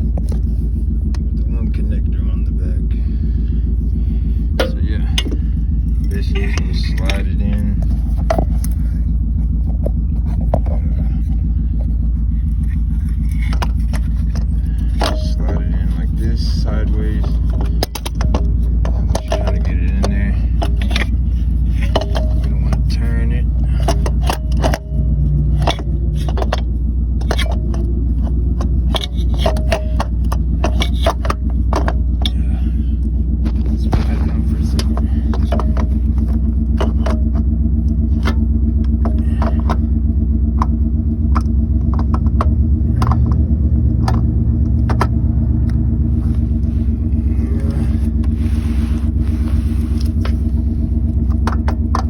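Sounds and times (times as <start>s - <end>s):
starter motor clicks and knocks: 0.0s - 52.0s
steady low hum: 0.0s - 52.0s
steady low rumble: 0.0s - 52.0s.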